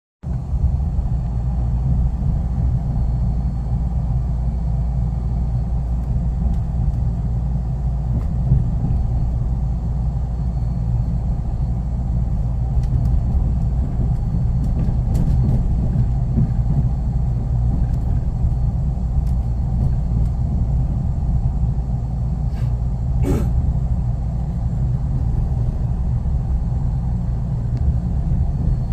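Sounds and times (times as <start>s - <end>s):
subway trains rumbling: 0.2s - 28.9s.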